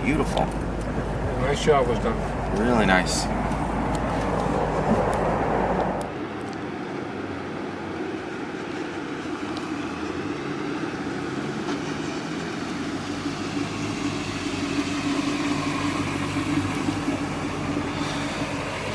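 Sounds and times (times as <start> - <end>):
car engine droning: 0.0 - 18.9.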